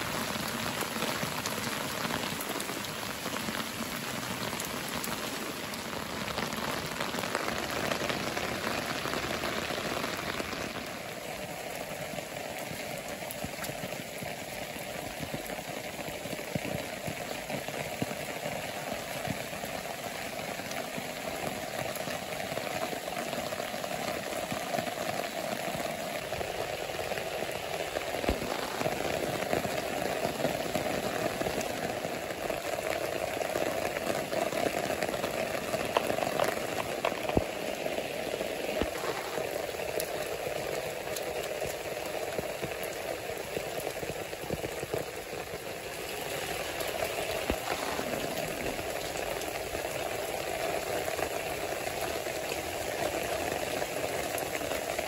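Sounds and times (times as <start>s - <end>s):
rain pattering on stones and leaves: 0.0s - 55.0s.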